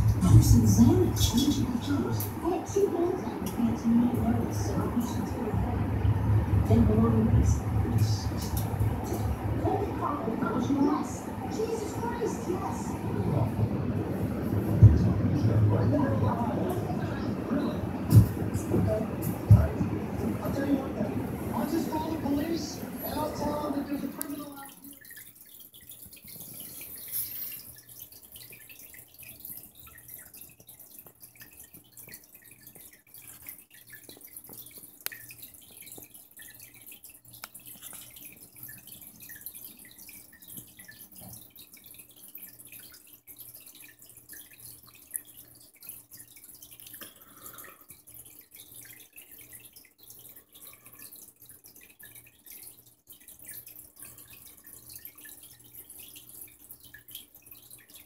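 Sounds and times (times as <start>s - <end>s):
aquarium water trickling: 0.0s - 58.0s
low steady hum: 0.0s - 58.0s.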